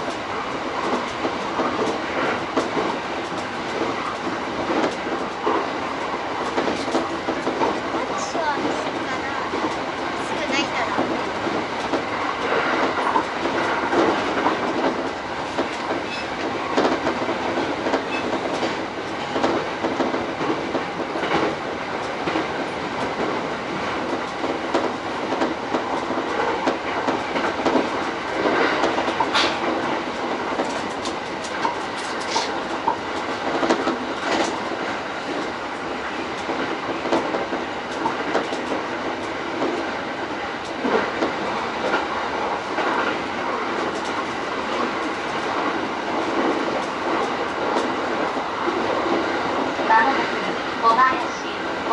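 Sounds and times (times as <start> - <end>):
train wheel and rail noise: 0.0 - 51.9
wheels clicking over rail joints: 0.0 - 51.9.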